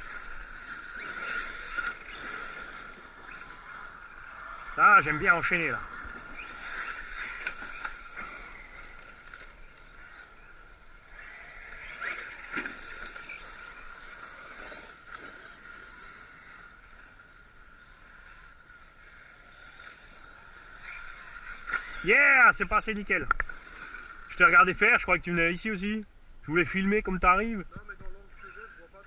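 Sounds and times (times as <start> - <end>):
rc car running on dirt: 0.0 - 29.0.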